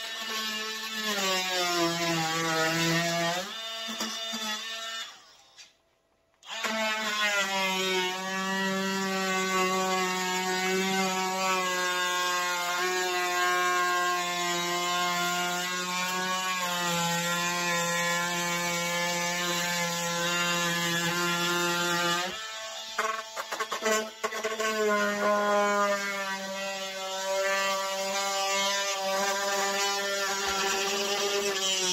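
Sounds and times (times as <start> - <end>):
oscillating multi-tool buzzing: 0.0 - 5.8, 6.4 - 31.9.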